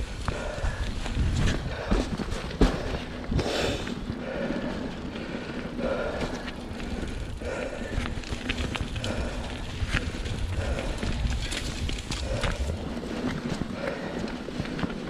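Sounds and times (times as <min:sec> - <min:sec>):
bike tyres rolling on dirt: 0:00.0 - 0:15.0.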